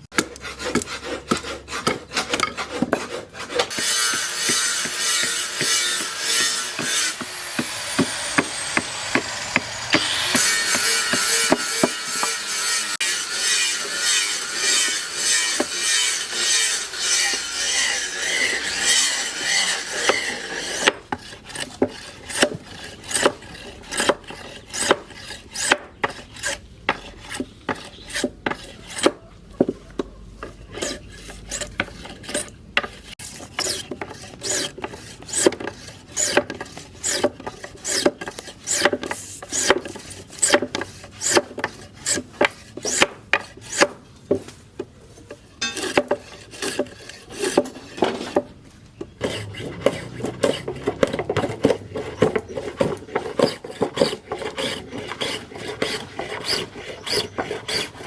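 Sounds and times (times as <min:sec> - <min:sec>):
hand file rasping: 0:00.1 - 0:44.1, 0:45.3 - 0:48.5, 0:49.2 - 0:58.0.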